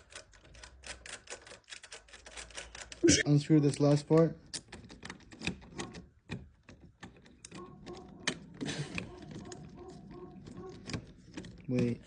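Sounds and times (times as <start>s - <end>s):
door deadbolt clicking and rattling: 0.0s - 3.0s, 4.1s - 12.0s.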